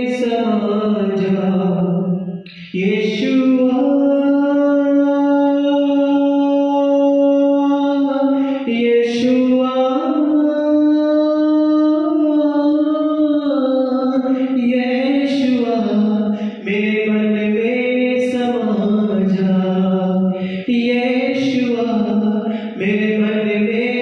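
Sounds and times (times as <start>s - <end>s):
young man singing worship song: 0.0s - 24.0s.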